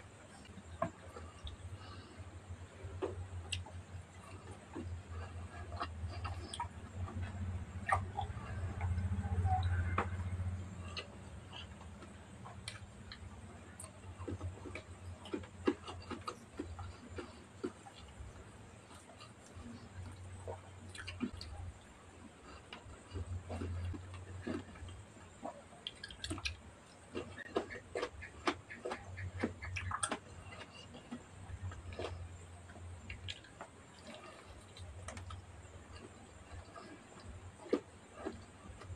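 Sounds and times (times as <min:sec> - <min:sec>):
low steady hum: 0:00.0 - 0:38.9
chewing and lip smacking: 0:00.1 - 0:38.9.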